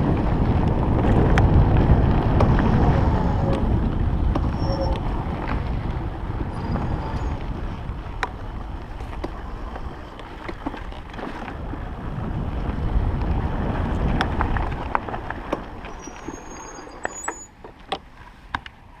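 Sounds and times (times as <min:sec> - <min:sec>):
wind on microphone: 0:00.0 - 0:17.2
bike rattling over bumps: 0:00.0 - 0:19.0
bike tyres rumbling: 0:00.0 - 0:19.0.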